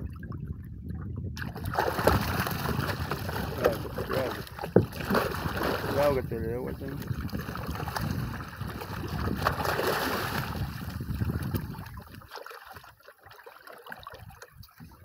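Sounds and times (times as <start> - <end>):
fish splashing at water surface: 1.4 - 6.1, 7.2 - 14.6.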